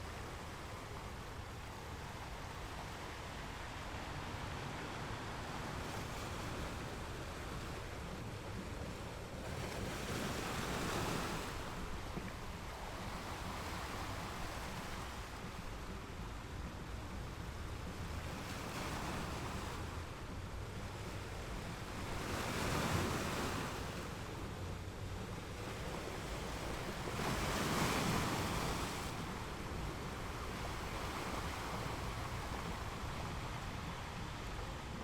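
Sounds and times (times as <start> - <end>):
waves breaking: 0.0 - 35.0.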